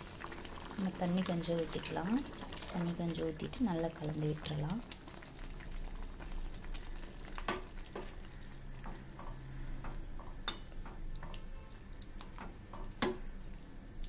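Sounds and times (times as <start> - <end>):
wet stirring in pan: 0.0 - 13.7.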